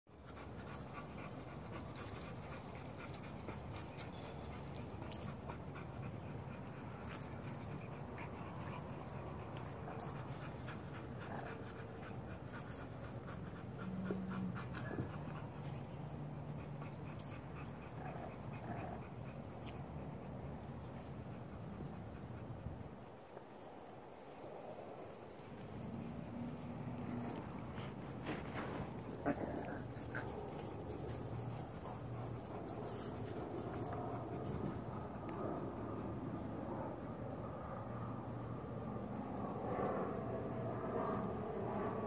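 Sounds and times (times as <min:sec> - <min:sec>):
puppies panting: 0:00.1 - 0:36.9.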